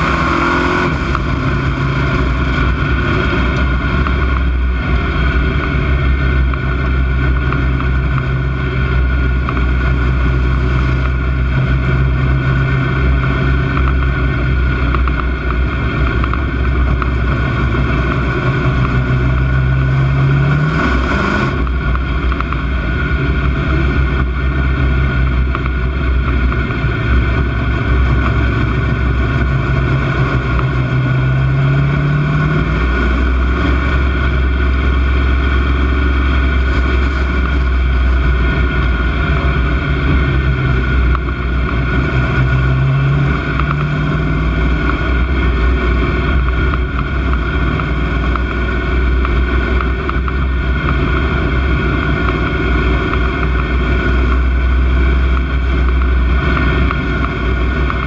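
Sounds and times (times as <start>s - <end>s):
racing car engine accelerating: 0.0s - 58.0s.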